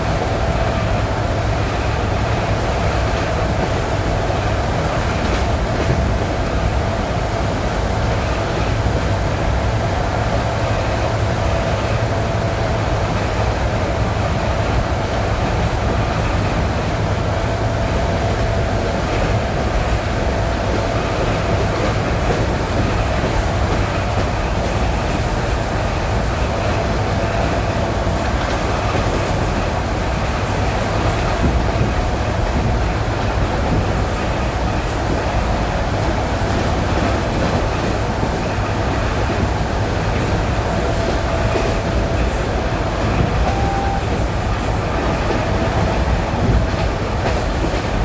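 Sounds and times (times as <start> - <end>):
steady train whine: 0.0 - 48.0
train rolling rumble: 0.0 - 48.0.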